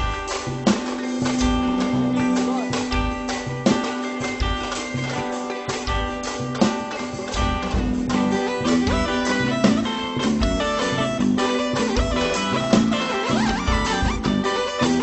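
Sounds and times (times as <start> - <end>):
live band with lead guitar: 0.0 - 15.0.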